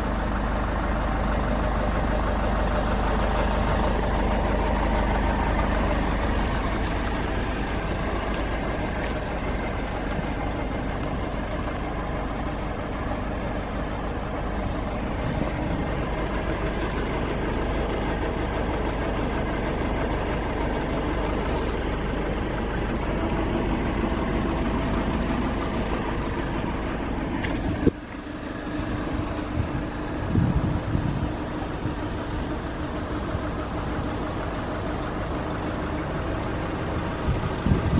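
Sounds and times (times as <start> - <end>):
diesel van engine running: 0.0 - 37.9.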